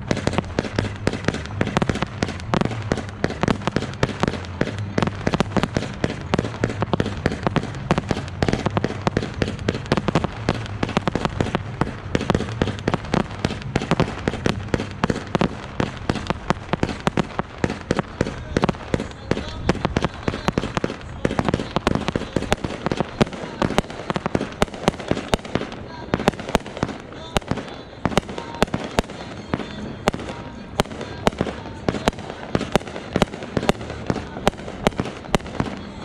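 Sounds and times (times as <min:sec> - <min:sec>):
fireworks popping and banging: 0:00.0 - 0:36.0.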